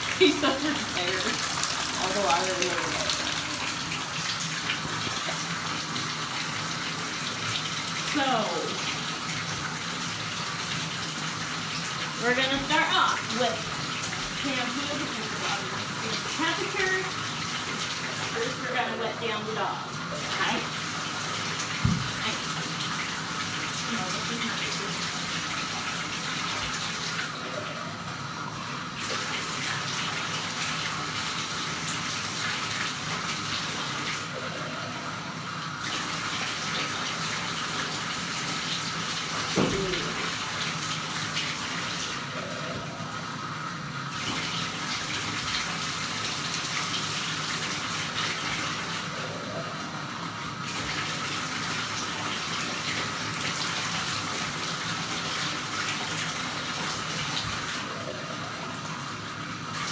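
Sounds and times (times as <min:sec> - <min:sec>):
tap water running into tub: 0:00.0 - 0:59.9.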